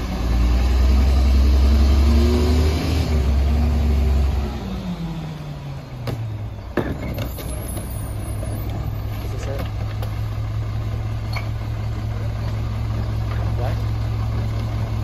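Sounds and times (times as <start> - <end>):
diesel truck engine revving: 0.0 - 15.0.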